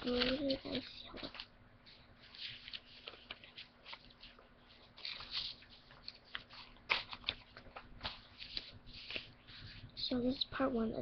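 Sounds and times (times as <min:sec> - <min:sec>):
sharp paper crackle: 0:00.0 - 0:10.2
paper rustling and crinkling: 0:00.0 - 0:10.9.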